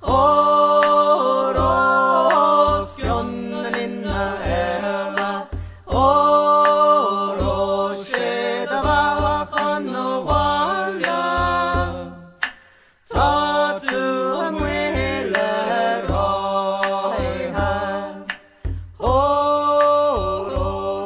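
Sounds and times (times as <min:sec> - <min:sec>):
person singing chant-like song: 0:00.0 - 0:21.0
regular drum beat: 0:00.0 - 0:21.0.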